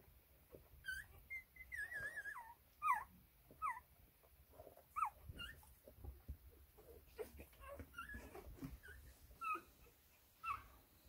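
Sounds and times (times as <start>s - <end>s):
puppies whimpering and squealing: 0.5s - 3.9s, 4.5s - 10.8s.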